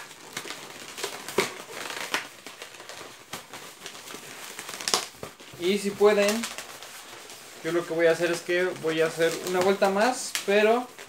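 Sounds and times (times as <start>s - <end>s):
balloons rubbing and squeaking: 0.0s - 11.0s.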